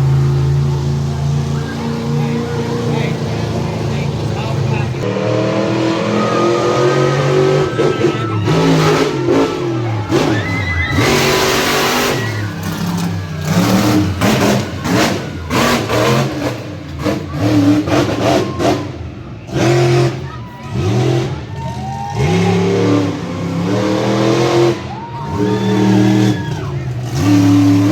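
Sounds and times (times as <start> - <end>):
monster truck engine revving: 0.0 - 27.9.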